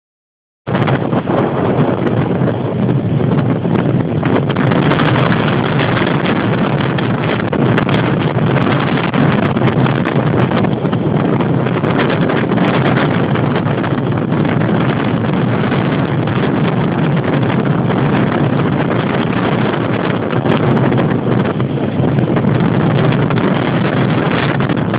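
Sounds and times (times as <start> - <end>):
wind blowing across microphone: 0.7 - 24.9.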